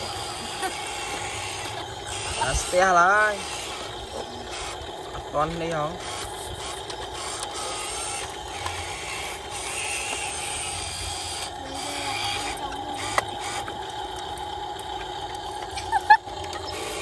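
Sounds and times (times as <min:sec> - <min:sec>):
toy truck motors whirring: 0:00.0 - 0:17.0.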